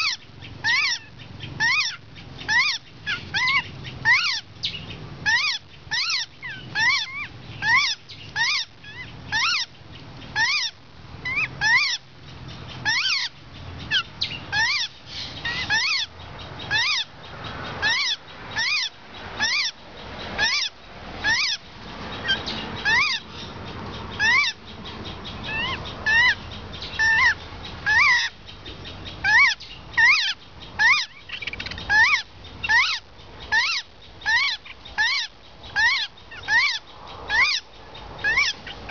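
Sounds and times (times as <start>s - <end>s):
bird chicks calling: 0.0s - 38.9s.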